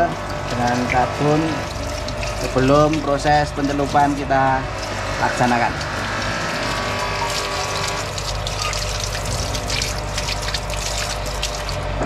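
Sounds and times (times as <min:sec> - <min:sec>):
water sloshing in a tub: 0:00.0 - 0:12.0.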